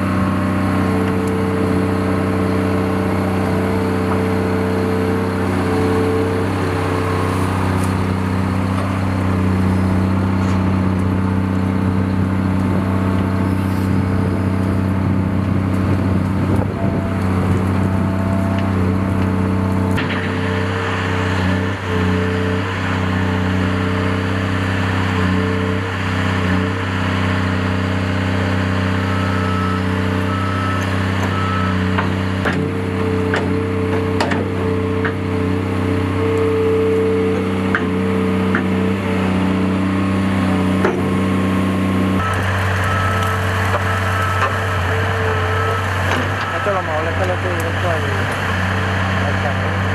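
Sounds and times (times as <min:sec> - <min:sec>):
heavy machine engine running: 0:00.0 - 0:49.9.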